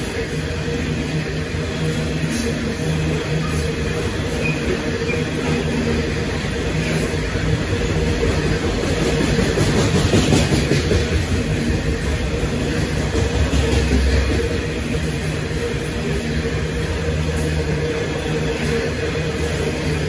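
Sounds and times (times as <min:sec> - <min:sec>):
train wagons rumbling on rails: 0:00.0 - 0:20.0.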